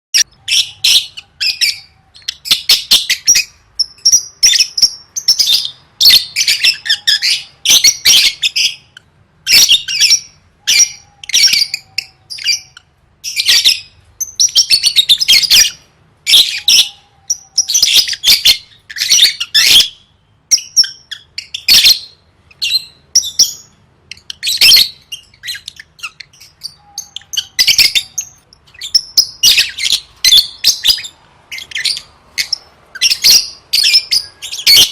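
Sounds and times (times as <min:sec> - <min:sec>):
lovebird chattering: 0:00.2 - 0:34.9.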